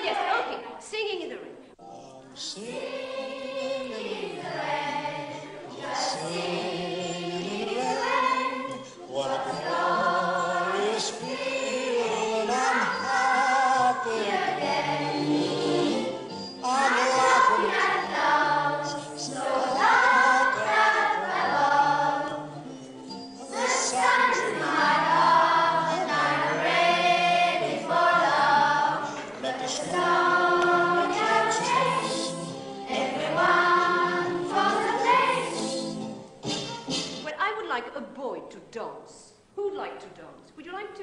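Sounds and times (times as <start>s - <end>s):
children singing in unison: 2.4s - 22.8s, 23.4s - 36.2s.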